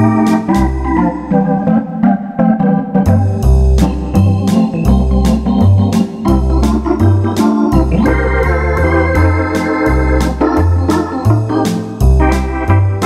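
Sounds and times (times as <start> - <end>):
bass line: 0.0 - 13.0
crisp ticks keeping beat: 0.0 - 13.0
organ chords and melody: 0.0 - 13.0.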